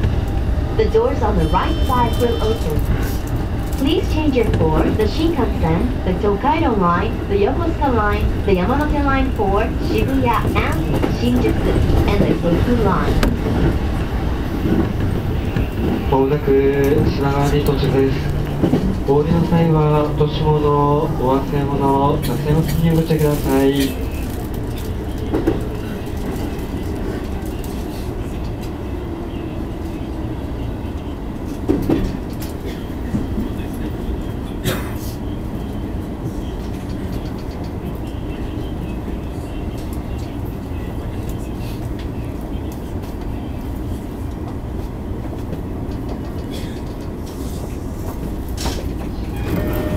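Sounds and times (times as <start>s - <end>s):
train wheels rumbling: 0.0s - 38.7s, 43.0s - 49.9s.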